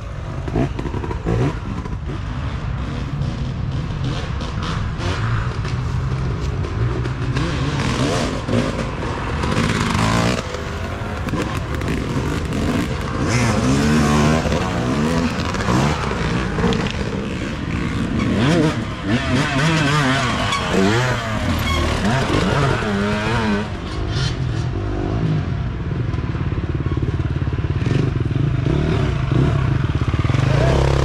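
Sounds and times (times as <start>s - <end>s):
dirt bike engines revving: 0.0s - 31.0s.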